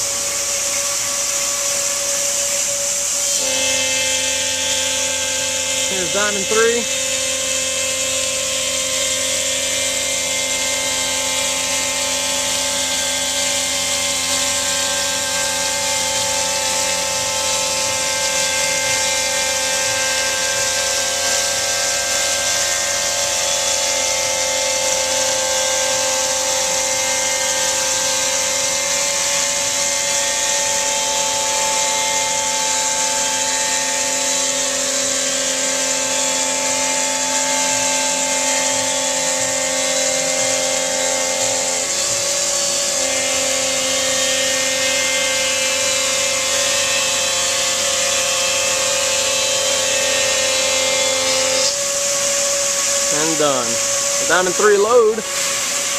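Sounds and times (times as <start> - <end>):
grinding and spray hiss: 0.0 - 55.9
stone router spindle whine: 0.0 - 55.9.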